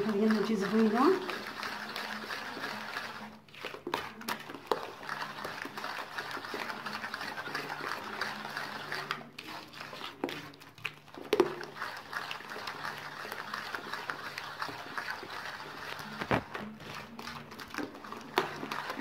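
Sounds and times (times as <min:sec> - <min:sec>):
wet mixing in a bowl: 0:00.0 - 0:19.0.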